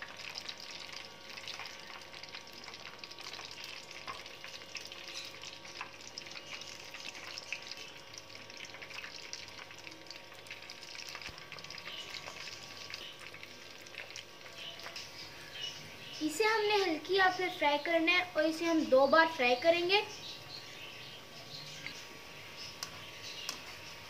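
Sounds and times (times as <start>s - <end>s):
deep-frying sizzle with pops: 0.0s - 24.0s.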